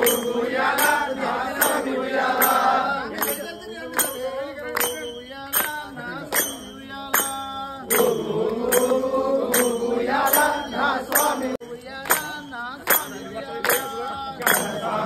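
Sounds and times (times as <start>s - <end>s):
jingling hand percussion: 0.0s - 15.0s
men singing devotional song: 0.0s - 15.0s.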